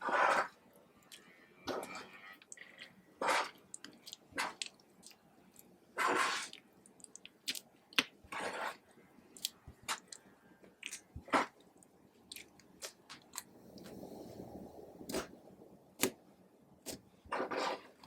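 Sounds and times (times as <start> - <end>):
crackly slime squelches: 0.0 - 14.1, 14.9 - 18.0.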